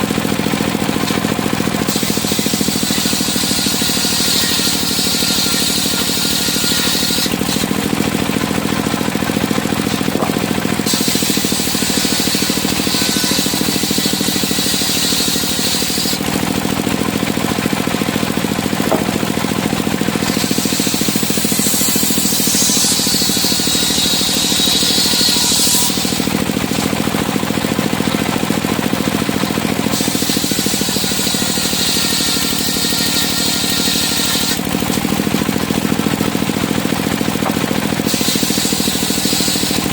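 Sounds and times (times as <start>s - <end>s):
saw blade cutting timber: 0.0s - 39.9s
sawmill engine running: 0.0s - 39.9s.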